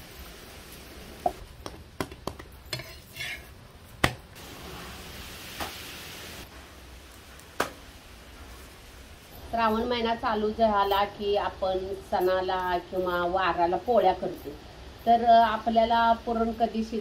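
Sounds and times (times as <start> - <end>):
soft sizzle of frying: 0.0 - 1.5, 2.7 - 17.0.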